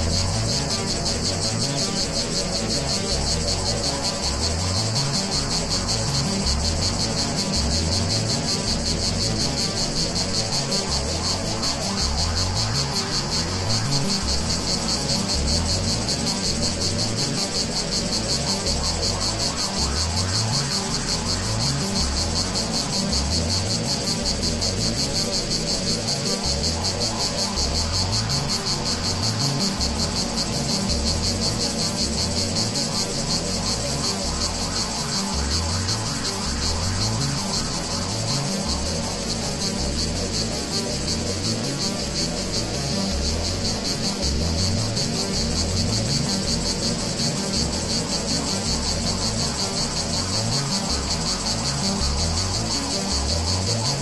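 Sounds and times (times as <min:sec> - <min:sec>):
cicada chorus: 0:00.0 - 0:54.0.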